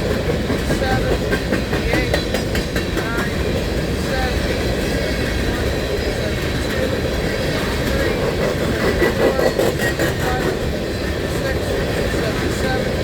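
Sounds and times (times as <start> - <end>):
train wheels rumbling on rail: 0.0 - 13.0
wheels clanking over rail joints: 0.0 - 13.0.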